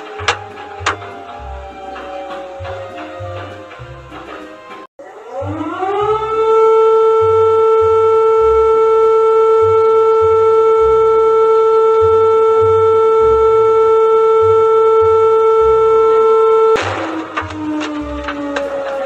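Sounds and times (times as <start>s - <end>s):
emergency alert alarm tone: 0.0s - 19.0s
low rumbling pulses: 0.0s - 19.0s.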